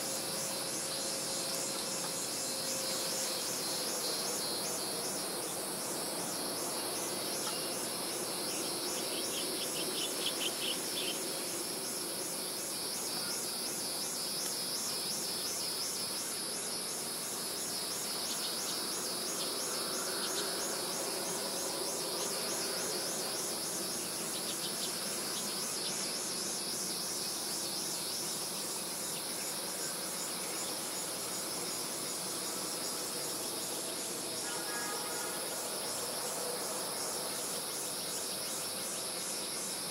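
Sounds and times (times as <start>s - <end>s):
background hum: 0.0s - 39.9s
insects trilling: 0.0s - 39.9s
lower pulsing insect call: 0.0s - 39.9s.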